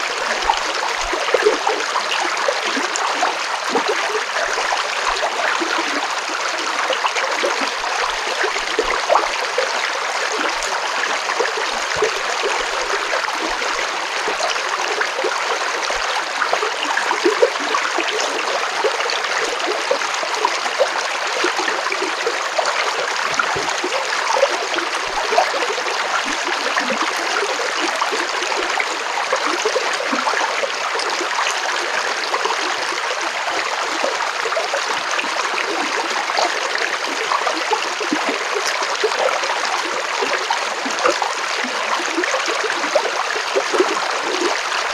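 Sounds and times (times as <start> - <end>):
water flowing and splashing: 0.0 - 44.9.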